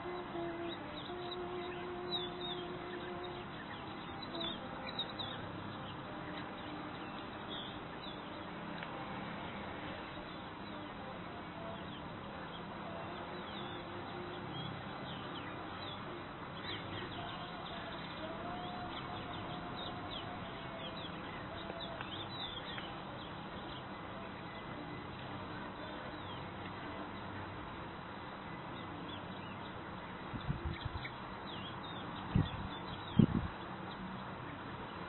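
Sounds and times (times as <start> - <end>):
birds chirping: 0.0 - 35.0
steady outdoor hiss: 0.0 - 35.0.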